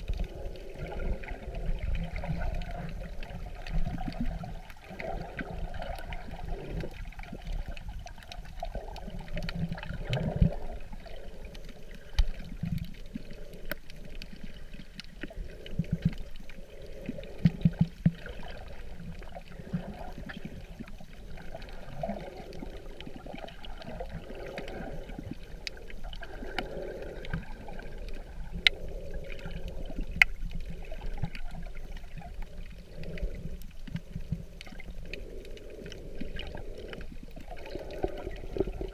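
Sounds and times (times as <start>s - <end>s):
water sloshing underwater: 0.0s - 38.9s.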